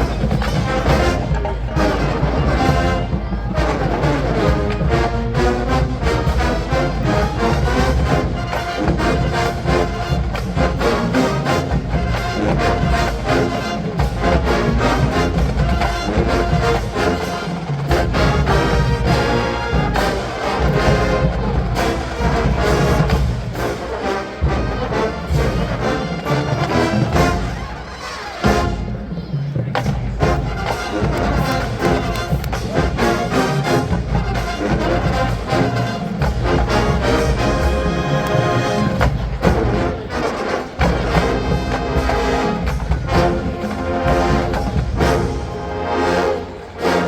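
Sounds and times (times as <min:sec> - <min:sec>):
brass band playing funk: 0:00.0 - 0:47.0
drumline beat: 0:00.0 - 0:47.0.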